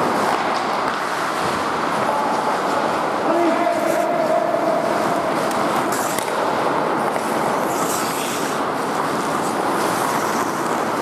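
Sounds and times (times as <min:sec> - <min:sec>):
skates scraping ice: 0:00.0 - 0:11.0.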